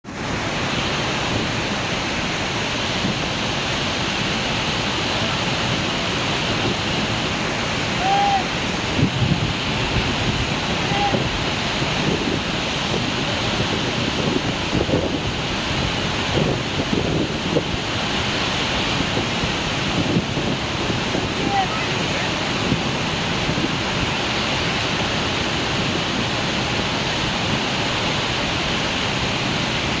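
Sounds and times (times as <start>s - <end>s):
water rushing over waterfall: 0.0s - 30.0s.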